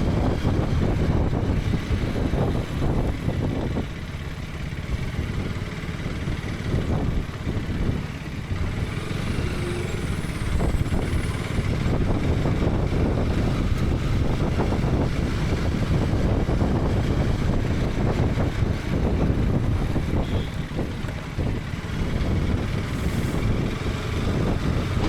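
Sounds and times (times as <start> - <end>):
motorcycle engine running: 0.0 - 25.0
road noise: 0.0 - 25.0.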